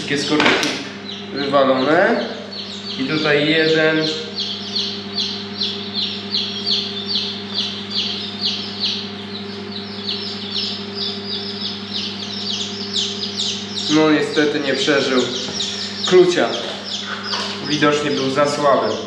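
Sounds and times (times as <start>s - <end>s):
chicks peeping: 0.0s - 19.0s
steady low hum: 0.0s - 19.0s.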